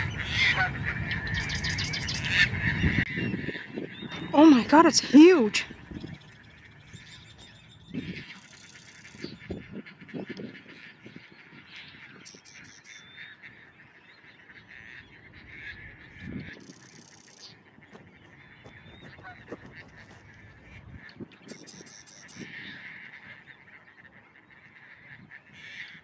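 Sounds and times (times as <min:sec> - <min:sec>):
waterfowl low calls: 0:00.0 - 0:26.0.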